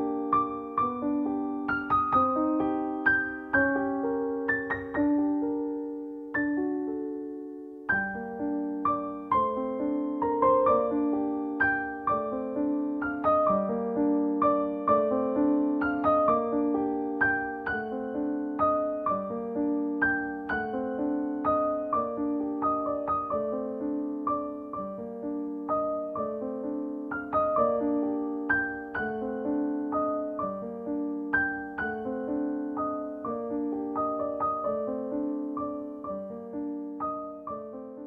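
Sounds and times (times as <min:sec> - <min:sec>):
gentle piano music: 0:00.0 - 0:38.0.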